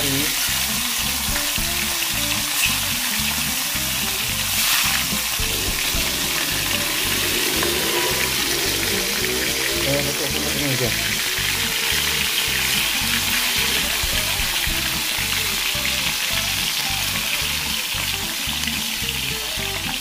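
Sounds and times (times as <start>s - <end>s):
fish frying in hot oil: 0.0s - 20.0s.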